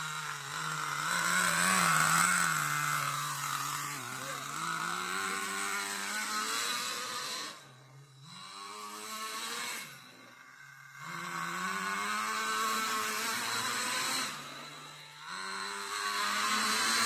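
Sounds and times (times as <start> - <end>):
miniature engine running: 0.0 - 17.0.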